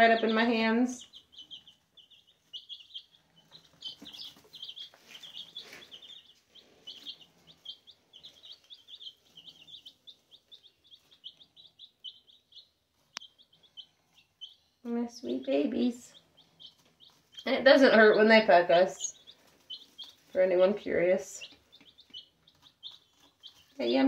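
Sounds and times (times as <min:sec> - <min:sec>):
baby chicks peeping: 0:00.0 - 0:24.0.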